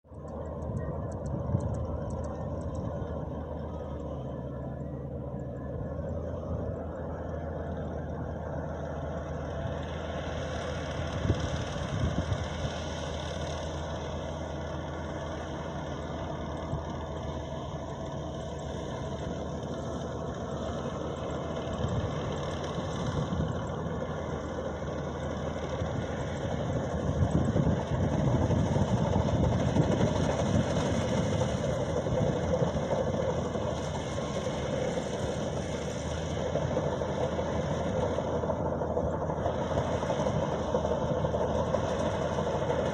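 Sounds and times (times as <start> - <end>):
combine harvester engine running: 0.0 - 42.9.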